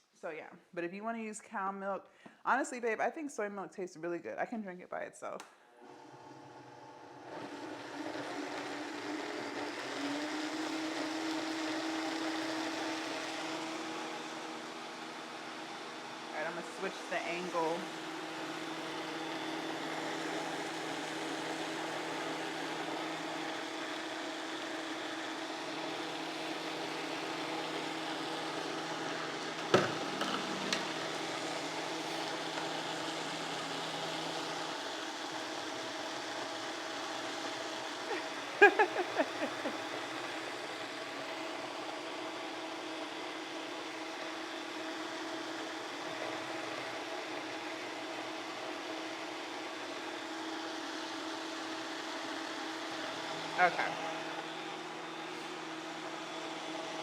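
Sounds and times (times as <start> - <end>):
blender running: 5.8 - 57.0.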